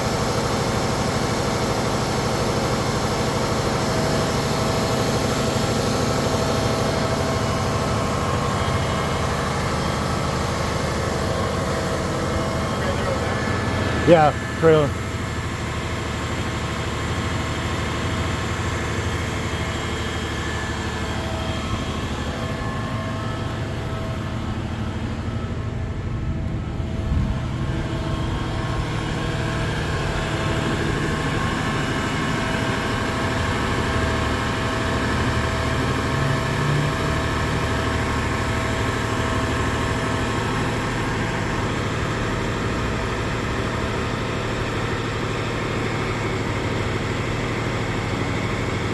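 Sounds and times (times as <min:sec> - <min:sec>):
truck engine droning: 0:03.0 - 0:48.9.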